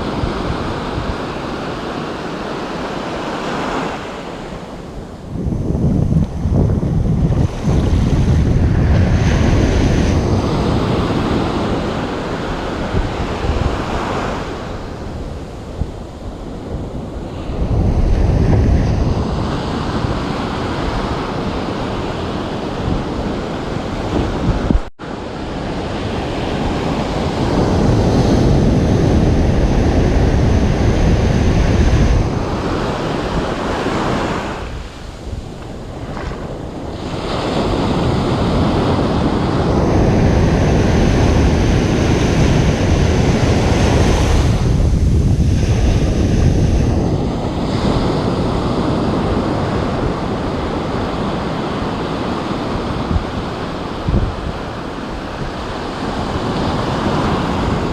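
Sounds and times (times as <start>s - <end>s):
ocean surf breaking: 0.0s - 57.9s
wind rumbling on microphone: 0.0s - 57.9s.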